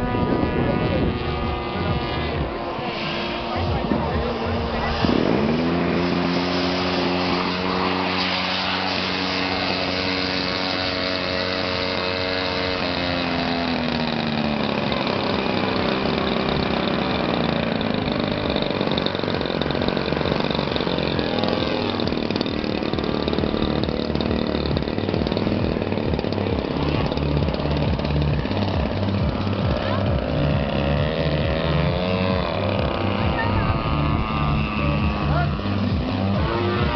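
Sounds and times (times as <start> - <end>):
small electric motor humming: 0.0 - 36.9.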